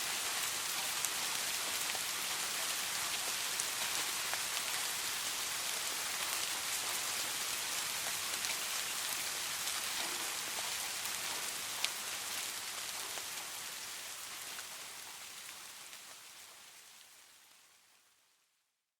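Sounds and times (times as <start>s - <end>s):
soft rain falling: 0.0s - 18.9s.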